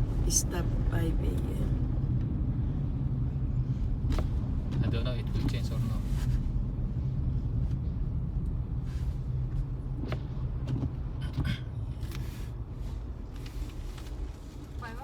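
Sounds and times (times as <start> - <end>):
car rumbling through snow: 0.0 - 15.0.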